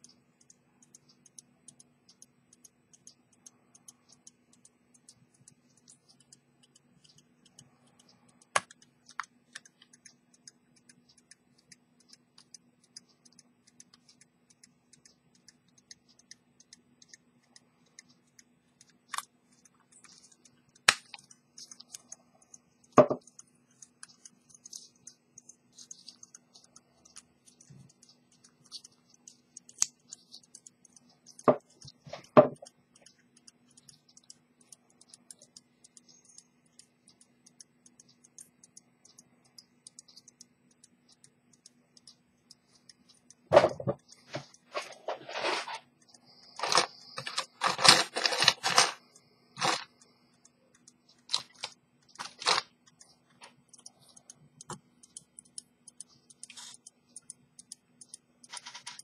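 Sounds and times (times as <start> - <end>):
faint fast ticking: 0.0 - 44.8, 49.0 - 59.0
low steady hum: 0.0 - 59.0.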